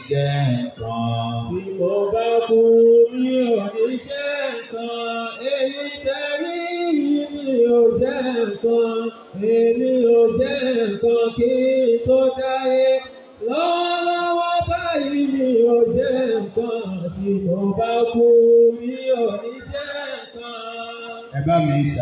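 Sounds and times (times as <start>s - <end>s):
man chanting into microphone: 0.0s - 22.0s.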